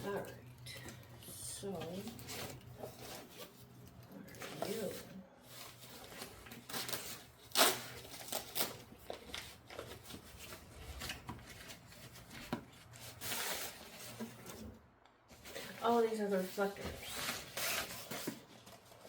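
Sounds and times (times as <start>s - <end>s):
packaging rustling and tearing: 0.0s - 19.0s.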